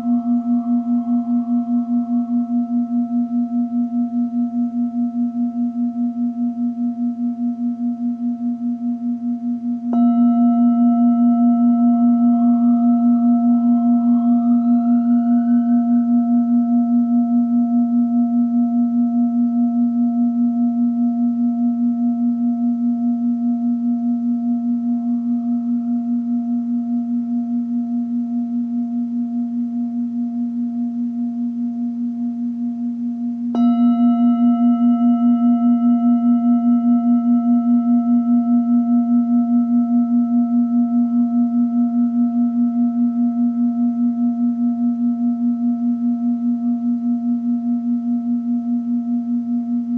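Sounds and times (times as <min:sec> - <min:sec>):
bowl struck sharply: 0:00.0 - 0:49.9
singing bowl ringing: 0:00.0 - 0:49.9.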